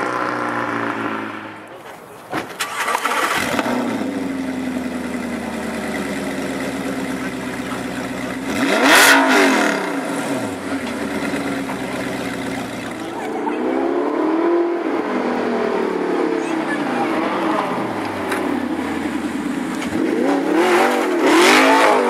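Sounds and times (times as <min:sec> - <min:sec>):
sports car engine revving: 0:03.2 - 0:22.0.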